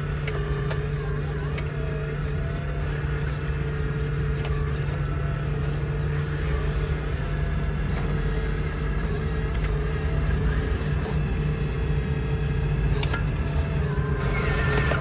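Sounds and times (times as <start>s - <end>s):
hydraulic pump humming: 0.0s - 15.0s.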